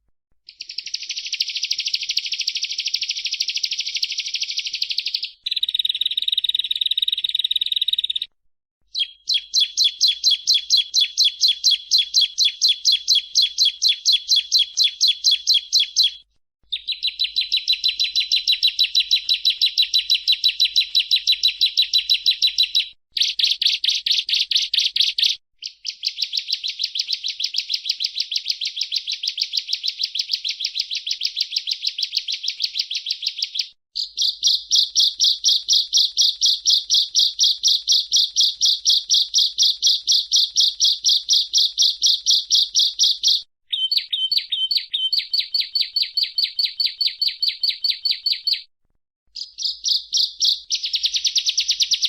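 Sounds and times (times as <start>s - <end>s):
bird chattering song: 0.5s - 8.3s, 8.9s - 48.7s, 49.4s - 52.0s.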